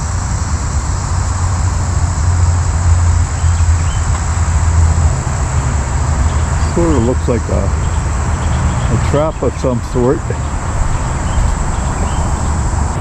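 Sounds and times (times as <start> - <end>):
highway traffic rumble: 0.0 - 13.0.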